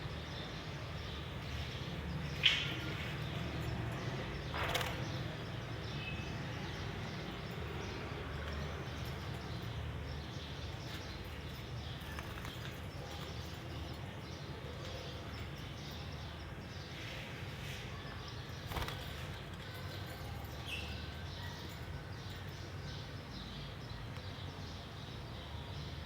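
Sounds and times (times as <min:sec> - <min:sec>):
lovebirds chirping: 0:00.0 - 0:25.6.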